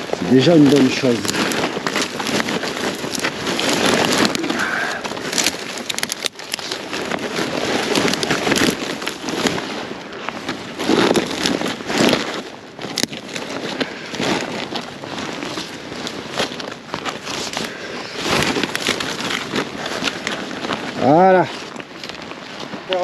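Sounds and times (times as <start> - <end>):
rubbish and undergrowth rustling: 0.0 - 23.0.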